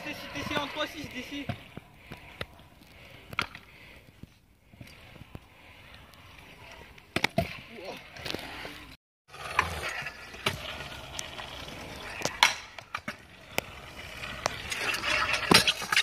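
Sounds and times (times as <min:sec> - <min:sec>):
scooter wheels rolling on concrete: 0:00.0 - 0:16.0.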